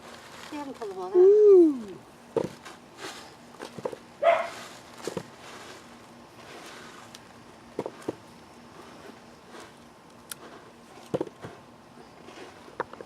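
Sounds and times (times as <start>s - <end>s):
hands digging through soil: 0.0s - 12.8s.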